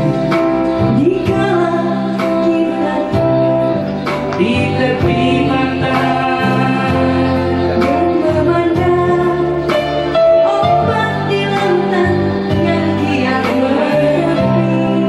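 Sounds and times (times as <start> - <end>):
backing music: 0.0 - 15.0
woman singing into microphone: 0.0 - 15.0.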